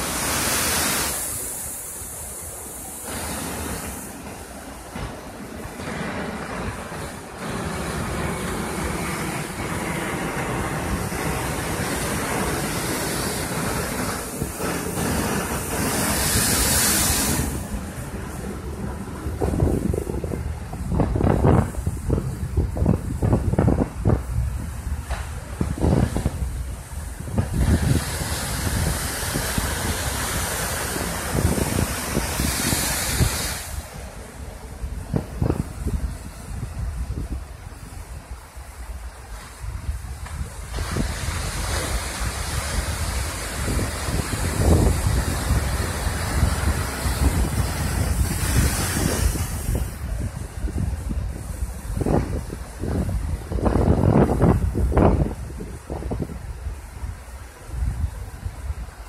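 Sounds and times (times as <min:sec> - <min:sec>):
surf breaking over rocks: 0:00.0 - 0:59.0
wind buffeting microphone: 0:00.0 - 0:59.0.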